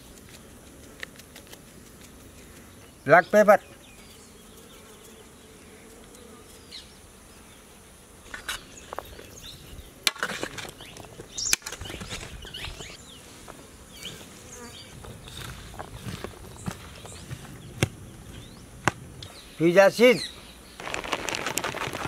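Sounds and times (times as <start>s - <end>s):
faint insect buzzing: 0.0s - 10.0s, 10.6s - 20.8s.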